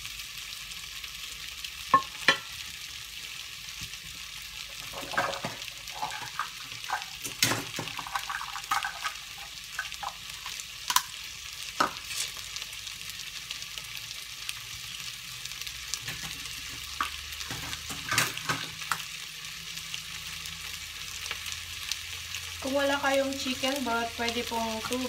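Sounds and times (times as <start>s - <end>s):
potatoes sizzling in a pan: 0.0s - 25.0s.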